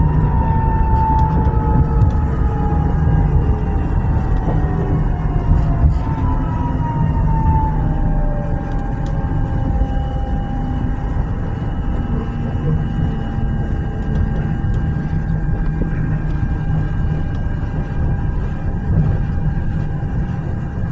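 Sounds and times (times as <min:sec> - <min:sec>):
electric drive whine: 0:00.0 - 0:20.9
tram wheels rumbling: 0:00.0 - 0:20.9.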